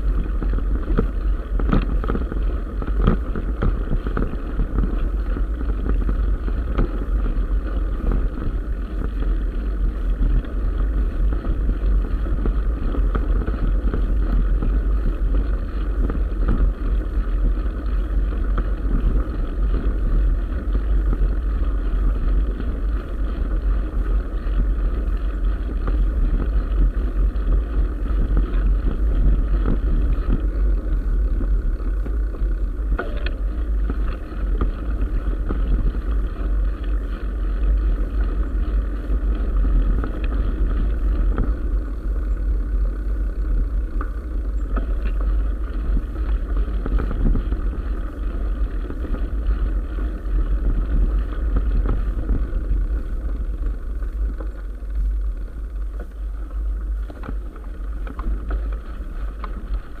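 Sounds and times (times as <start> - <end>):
small knocks from bike: 0.0 - 60.0
tyres rolling on gravel: 0.0 - 60.0
wind buffeting microphone: 0.0 - 60.0.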